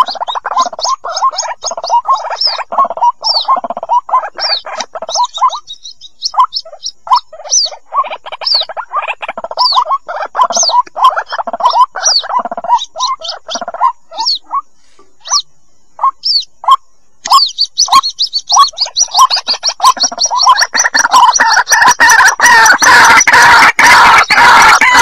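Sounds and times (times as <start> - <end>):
chicks peeping: 0.0 - 25.0
rough chattering bird calls: 0.0 - 25.0.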